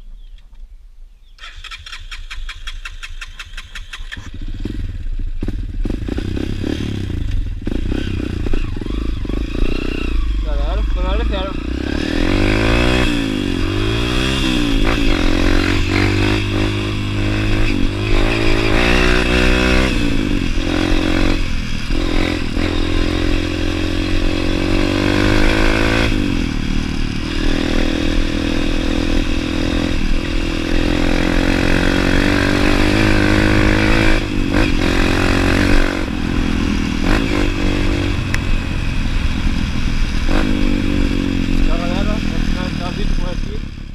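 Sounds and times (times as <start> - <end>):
dirt bike engine: 1.4 - 43.9.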